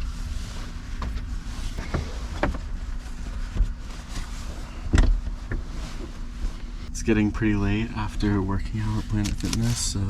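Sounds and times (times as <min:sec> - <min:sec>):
vehicle rumble: 0:00.0 - 0:10.0.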